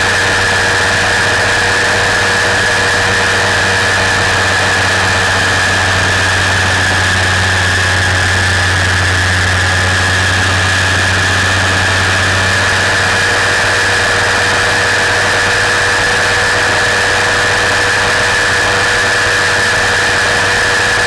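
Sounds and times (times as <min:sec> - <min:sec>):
aircraft engine drone: 0:00.0 - 0:21.0
propeller whine: 0:00.0 - 0:21.0.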